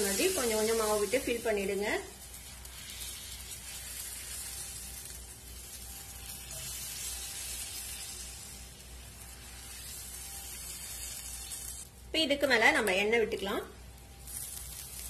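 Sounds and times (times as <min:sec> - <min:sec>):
batter sizzling on a griddle: 0:00.0 - 0:13.0, 0:13.7 - 0:15.0.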